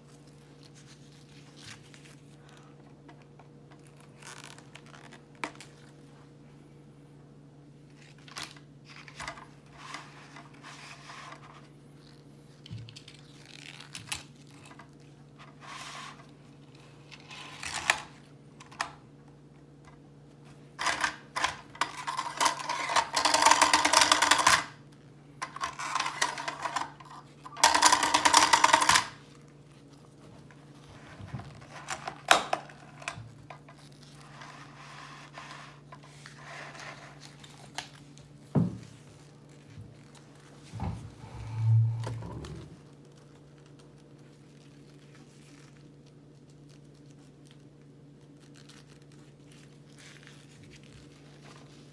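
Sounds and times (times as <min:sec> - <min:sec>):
plastic crinkling: 0:00.0 - 0:06.2, 0:07.8 - 0:18.5, 0:19.4 - 0:40.9, 0:41.6 - 0:51.9.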